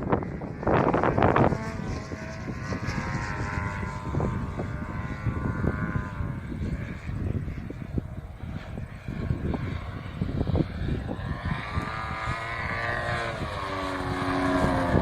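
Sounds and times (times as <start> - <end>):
model plane engine drone: 0.0 - 15.0
wind gust on microphone: 0.0 - 15.0.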